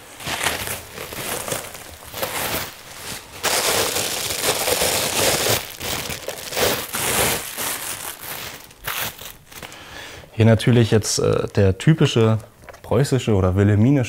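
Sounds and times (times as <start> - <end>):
bubble wrap and plastic bag rustling: 0.0 - 9.9, 10.8 - 12.8.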